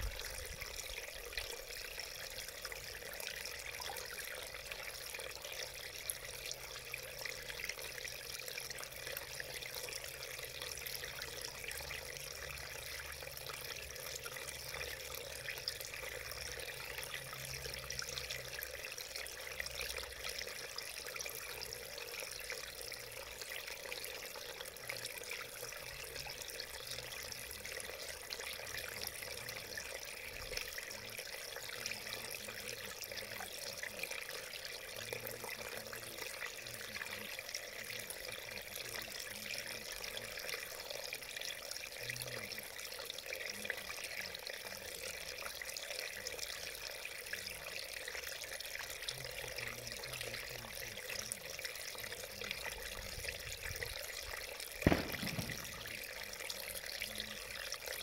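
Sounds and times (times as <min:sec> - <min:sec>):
stream splashing over rocks: 0:00.0 - 0:58.0.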